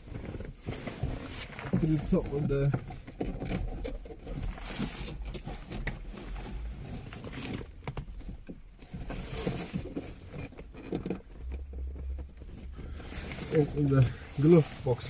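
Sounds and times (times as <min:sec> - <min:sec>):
cable rustling against plastic trim: 0:00.0 - 0:15.0.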